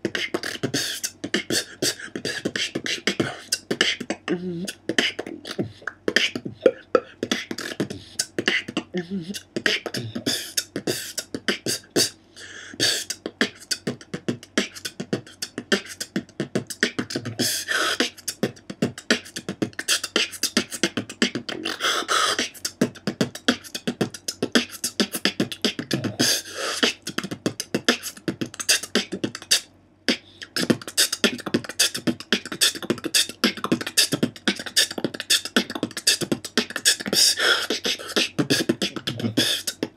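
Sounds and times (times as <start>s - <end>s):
beatboxing: 0.0s - 39.9s.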